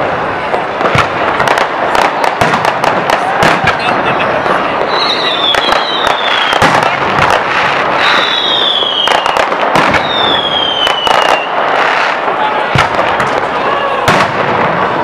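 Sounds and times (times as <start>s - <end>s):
fireworks bangs and crackles: 0.0s - 15.0s
whistling fireworks: 0.0s - 15.0s.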